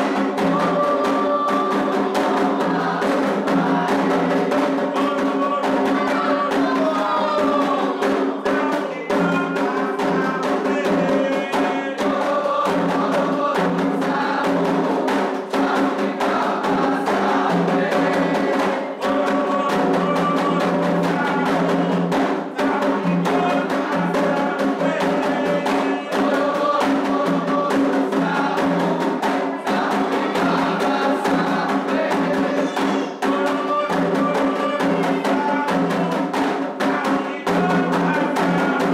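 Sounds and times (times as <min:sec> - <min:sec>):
group singing: 0:00.0 - 0:38.9
hand drums playing fast rhythm: 0:00.0 - 0:38.9.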